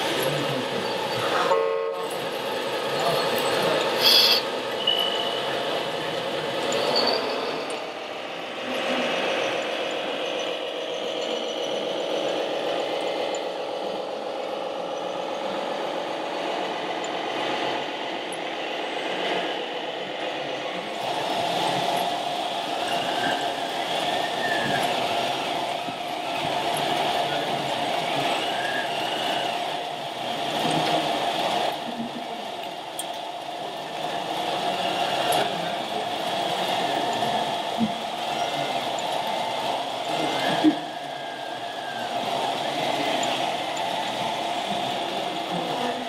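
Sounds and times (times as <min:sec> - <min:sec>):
model machine diesel engine drone: 0:00.0 - 0:46.0.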